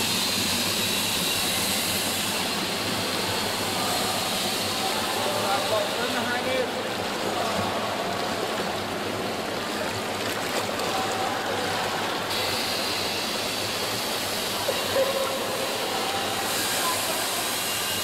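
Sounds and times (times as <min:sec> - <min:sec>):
pool water splashing: 0:00.0 - 0:18.0.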